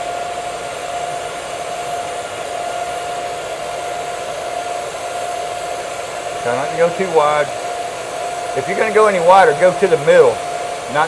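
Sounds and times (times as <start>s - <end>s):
welding arc hissing and humming: 0.0s - 11.0s.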